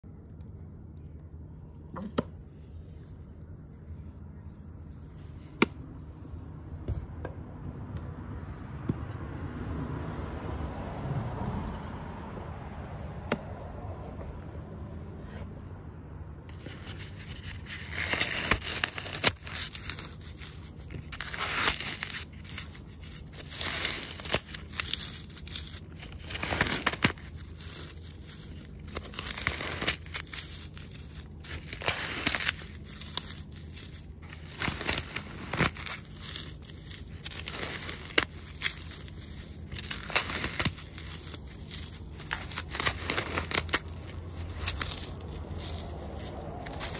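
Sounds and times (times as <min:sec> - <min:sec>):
dry foam crunching and crackling: 0:00.0 - 0:46.9
steady low hum: 0:00.0 - 0:46.9.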